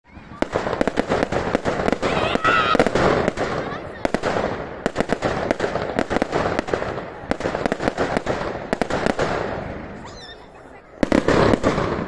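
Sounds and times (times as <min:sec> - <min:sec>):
fireworks bangs and crackles: 0:00.1 - 0:12.0.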